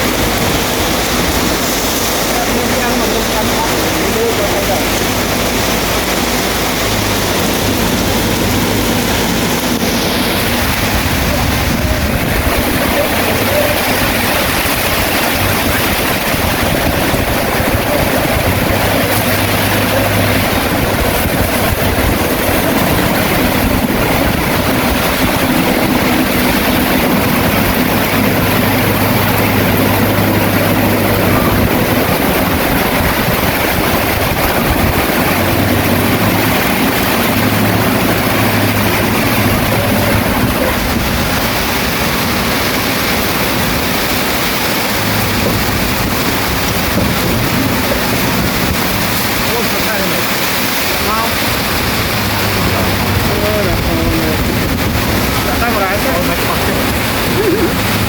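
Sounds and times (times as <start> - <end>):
bulldozer diesel engine running: 0.0 - 58.0
rain hiss: 0.0 - 58.0.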